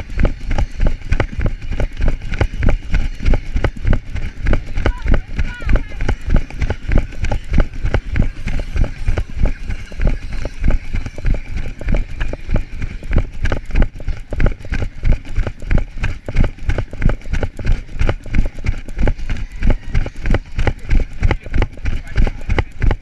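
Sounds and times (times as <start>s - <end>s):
running footsteps: 0.0s - 23.0s.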